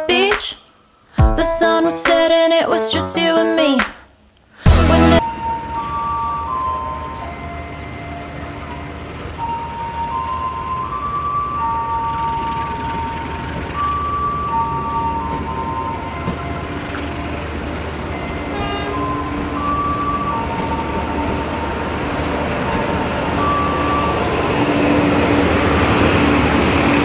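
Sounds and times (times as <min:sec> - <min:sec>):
faint melody in held notes: 0:04.7 - 0:27.0
small ride train rumbling: 0:04.7 - 0:27.0.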